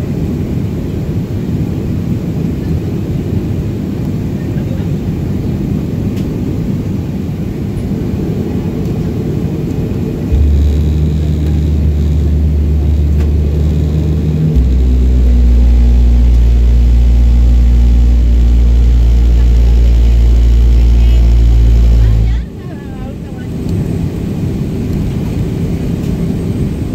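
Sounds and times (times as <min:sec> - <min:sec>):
jet engines droning: 0:00.0 - 0:26.9.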